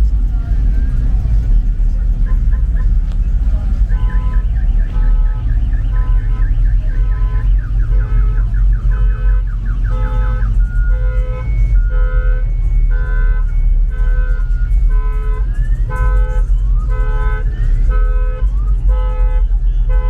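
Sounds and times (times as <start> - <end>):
low rumble: 0.0 - 20.0
electronic beeps: 0.1 - 18.9.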